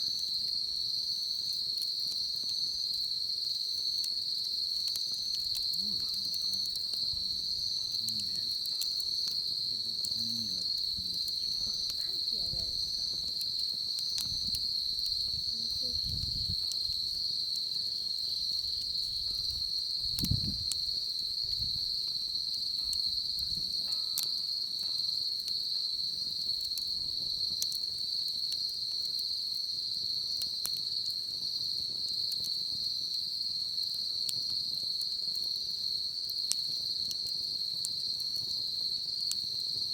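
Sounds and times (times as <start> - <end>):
insects trilling: 0.0 - 39.9
wood fire crackling: 0.0 - 39.9.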